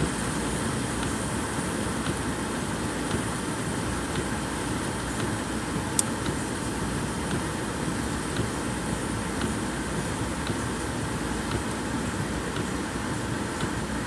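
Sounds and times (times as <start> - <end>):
rain on car roof: 0.0 - 14.0.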